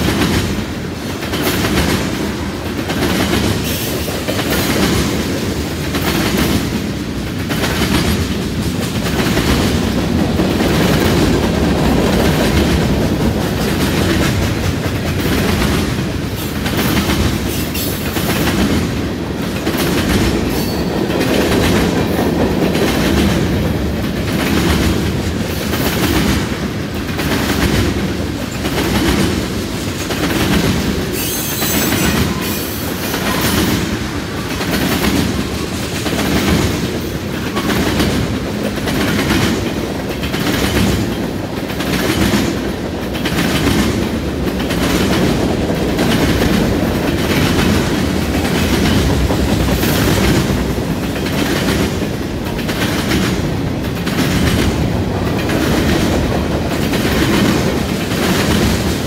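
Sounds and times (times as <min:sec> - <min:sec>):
clickety-clack of wheels: 0:00.0 - 0:59.0
train wheels rumbling on rails: 0:00.0 - 0:59.0.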